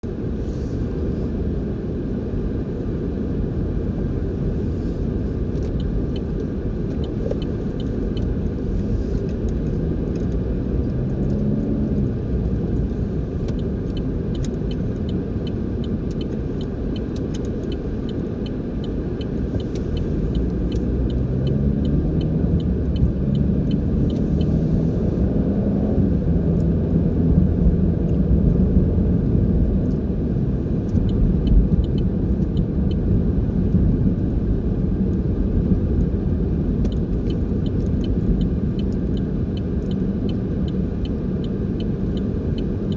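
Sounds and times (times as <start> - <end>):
vehicle engine and road noise: 0.0 - 42.9
light regular ticking: 5.4 - 25.2, 26.0 - 42.9.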